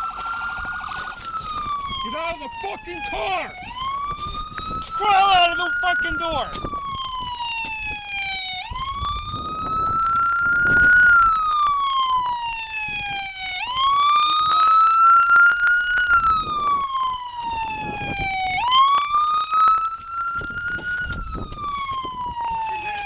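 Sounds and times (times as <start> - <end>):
police siren wailing: 0.0 - 23.0.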